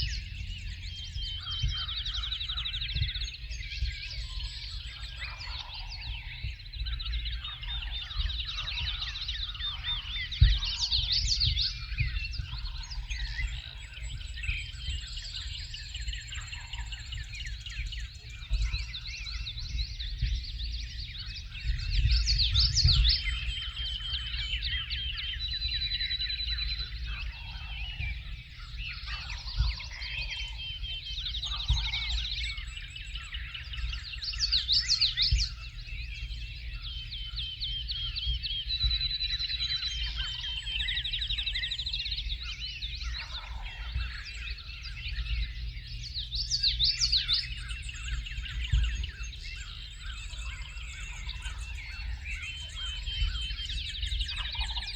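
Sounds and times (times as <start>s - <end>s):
loud rapid bird song: 0.0s - 54.9s
songbirds singing: 0.0s - 54.9s.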